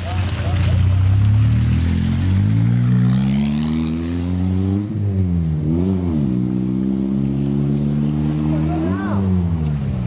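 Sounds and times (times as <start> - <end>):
sports car engine accelerating: 0.2 - 10.0.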